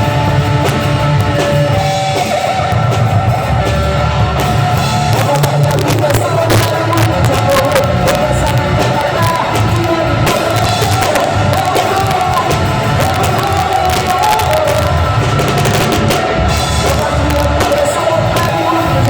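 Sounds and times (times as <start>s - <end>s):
crowd cheering: 0.0s - 19.0s
live band playing worship song: 0.0s - 19.0s.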